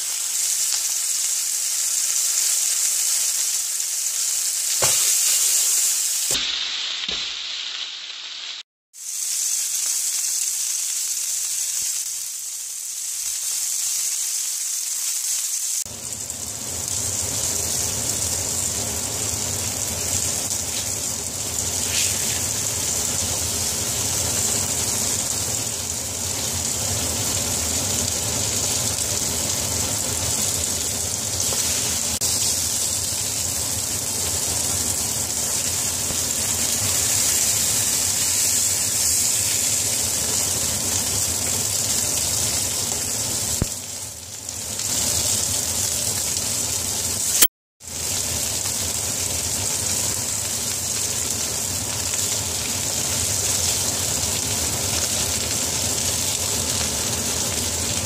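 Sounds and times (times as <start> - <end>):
chicken sizzling on a griddle: 0.0 - 58.0.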